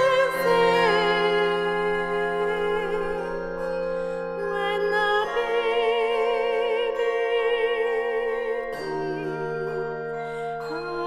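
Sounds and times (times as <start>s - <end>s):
handbell choir ringing chords: 0.0s - 11.0s
person singing with vibrato: 0.0s - 11.0s.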